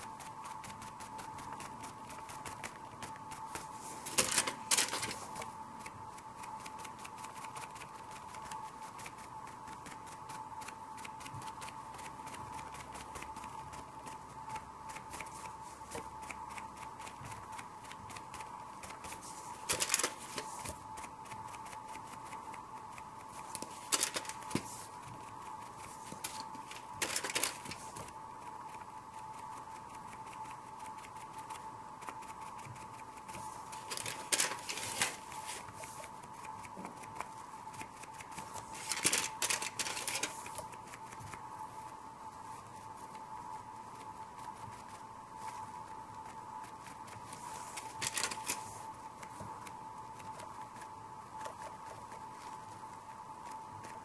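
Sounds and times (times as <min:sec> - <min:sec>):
steady high hum: 0:00.0 - 0:54.0.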